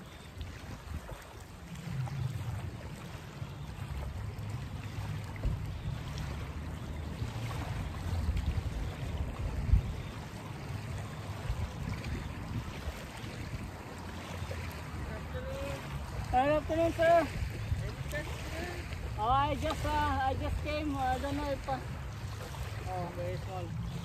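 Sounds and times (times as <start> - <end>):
waves washing on beach: 0.0 - 24.0
wind rumbling on microphone: 0.0 - 24.0.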